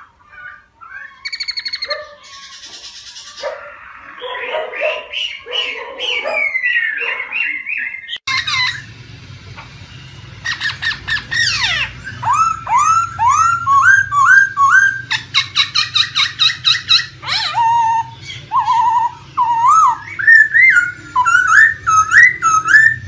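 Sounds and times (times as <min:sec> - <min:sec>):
bird singing: 0:00.0 - 0:09.0, 0:09.6 - 0:23.0.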